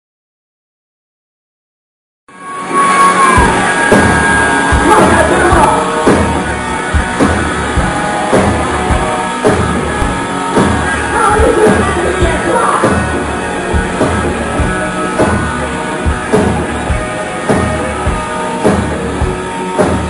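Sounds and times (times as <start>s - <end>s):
heavy metal band playing: 2.3s - 20.0s
heavy drum hits: 3.4s - 20.0s.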